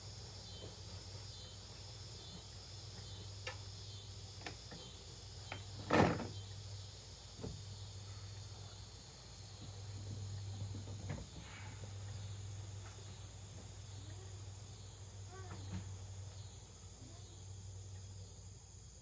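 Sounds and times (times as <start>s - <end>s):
crickets chirping: 0.0s - 19.0s
steady low hum: 0.0s - 19.0s.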